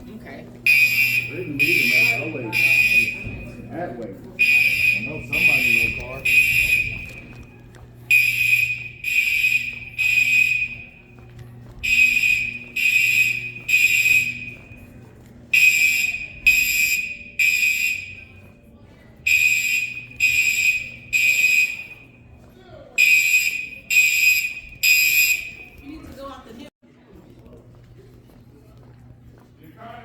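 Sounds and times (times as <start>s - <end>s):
fire alarm horn blasts: 0.6s - 22.4s, 23.0s - 26.1s.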